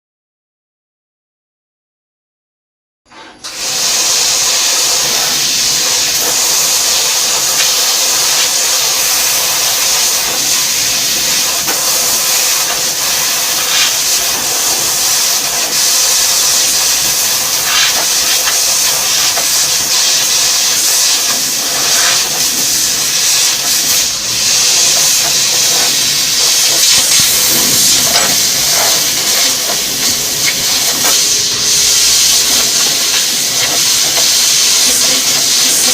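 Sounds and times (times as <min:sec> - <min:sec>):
laser cutter gas jet hiss: 0:03.1 - 0:35.9.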